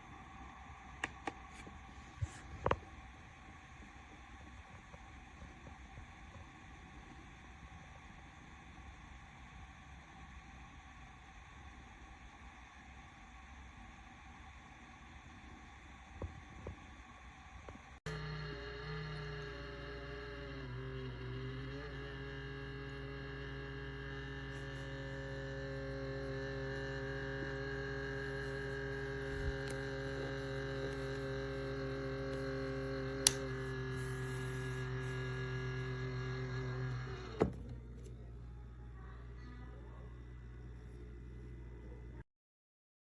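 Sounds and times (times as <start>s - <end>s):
humidifier electrical hum: 0.0s - 42.2s.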